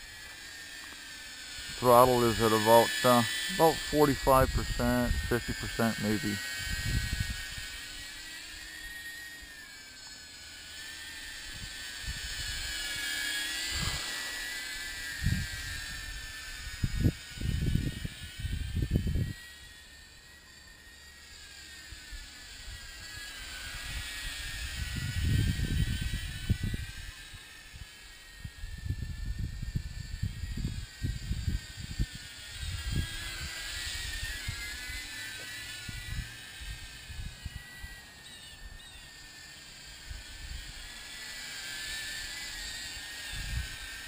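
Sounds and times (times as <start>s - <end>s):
quadcopter propeller whine: 0.0s - 44.0s.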